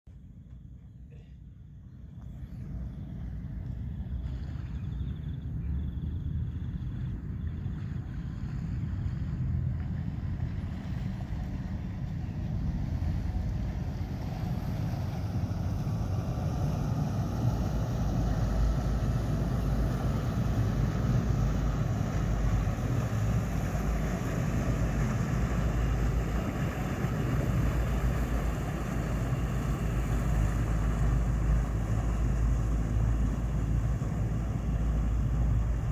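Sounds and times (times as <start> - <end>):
boat engine rumbling: 0.1 - 35.9.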